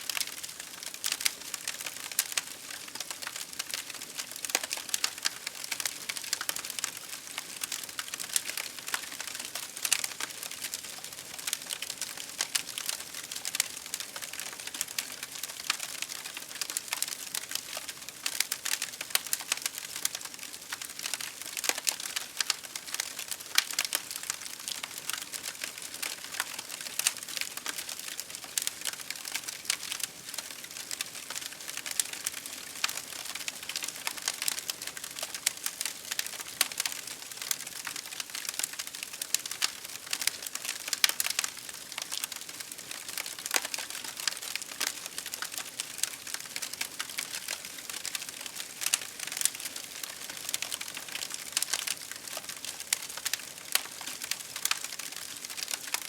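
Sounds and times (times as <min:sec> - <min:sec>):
campfire crackling: 0:00.1 - 0:56.0.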